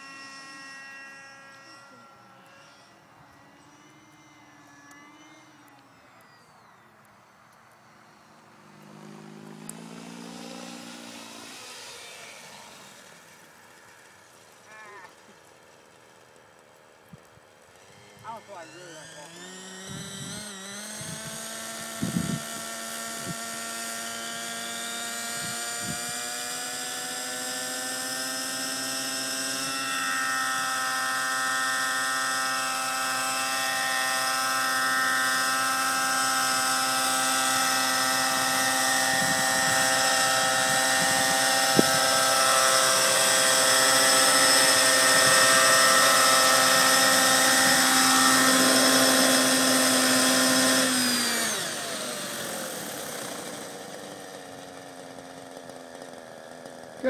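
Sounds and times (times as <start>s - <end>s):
model helicopter engine and rotors: 0.0s - 57.0s.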